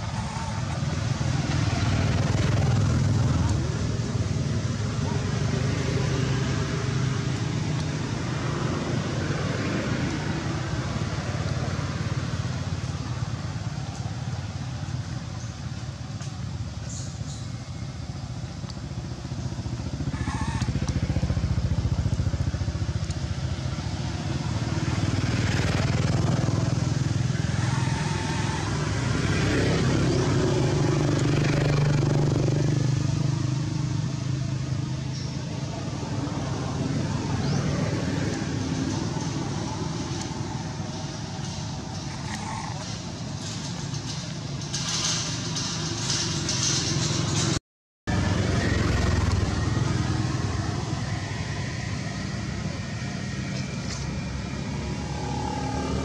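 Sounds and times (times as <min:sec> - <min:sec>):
motor vehicle engine humming: 0:00.0 - 0:56.0.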